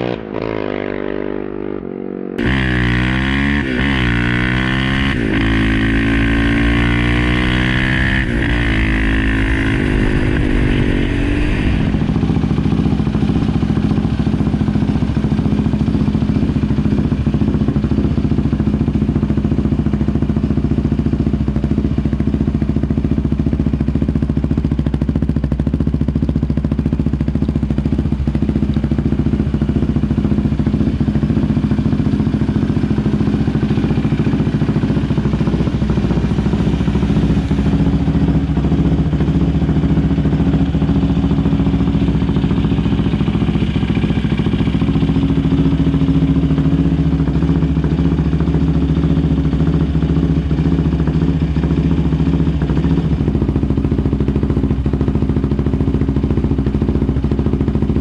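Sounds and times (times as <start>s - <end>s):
motorbike engine exhaust note: 0.0s - 58.0s.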